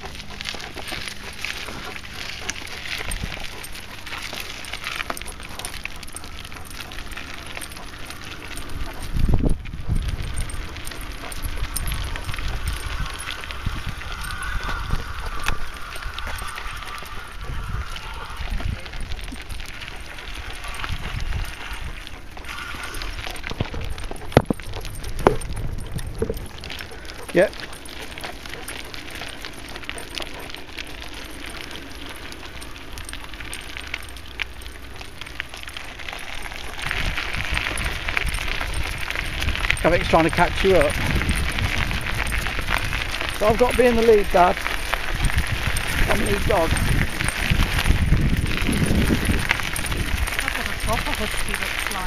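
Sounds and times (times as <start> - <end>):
bicycle clicks and rattles: 0.0 - 52.0
bicycle ride rumble: 0.0 - 52.0
wind buffeting microphone: 0.0 - 52.0.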